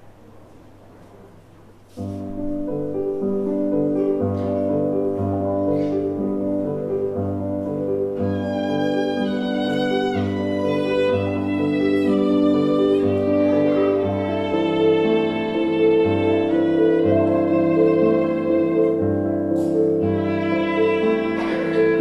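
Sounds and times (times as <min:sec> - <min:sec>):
violin melody: 0:02.4 - 0:22.0.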